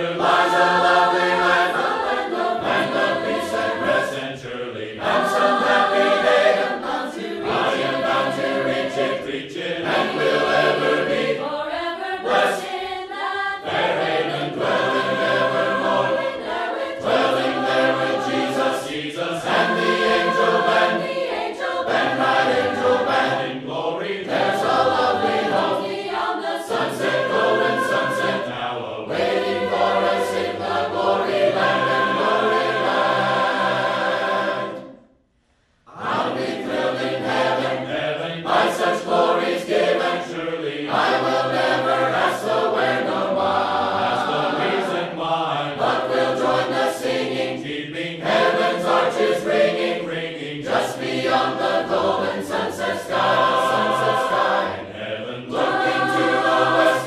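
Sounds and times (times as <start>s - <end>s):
choir singing a cappella: 0.0s - 35.2s, 35.8s - 57.0s.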